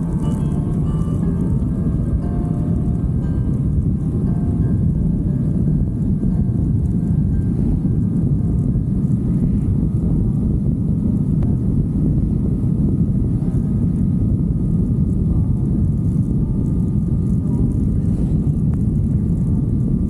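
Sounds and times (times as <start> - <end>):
motorcycle running: 0.0 - 20.0
wind and road noise: 0.0 - 20.0.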